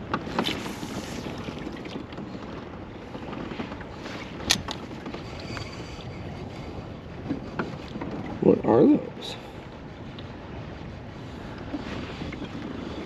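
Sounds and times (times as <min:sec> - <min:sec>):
waves lapping against hull: 0:00.0 - 0:13.0
wind: 0:00.0 - 0:13.0.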